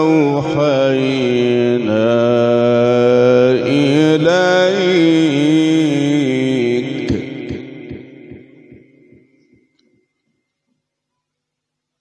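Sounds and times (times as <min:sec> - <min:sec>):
sung recitation note echoing: 0:00.0 - 0:10.1.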